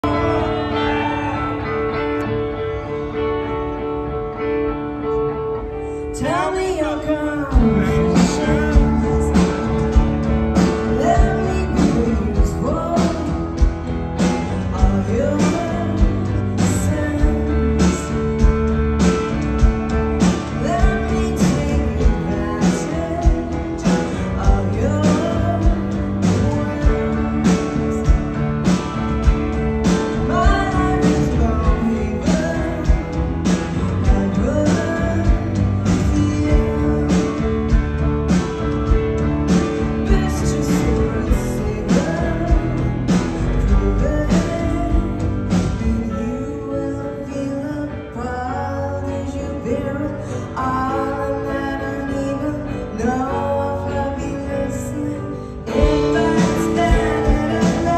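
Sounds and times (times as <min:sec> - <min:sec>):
bass guitar: 0:00.0 - 0:57.9
drums: 0:00.0 - 0:57.9
electric guitars: 0:00.0 - 0:57.9
woman singing: 0:06.1 - 0:18.7, 0:19.9 - 0:28.5, 0:29.8 - 0:37.8, 0:39.5 - 0:57.9.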